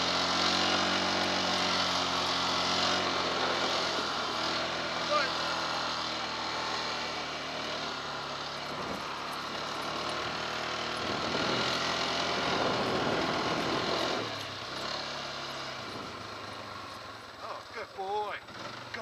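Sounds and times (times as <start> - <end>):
quad engine running: 0.0 - 19.0.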